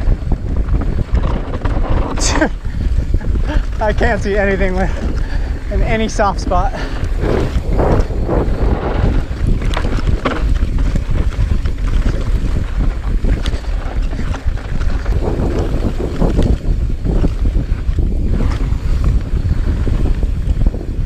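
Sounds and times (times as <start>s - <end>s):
bike rattling over bumps: 0.0s - 21.0s
tyre rumble: 0.0s - 21.0s
wind buffeting microphone: 0.0s - 21.0s.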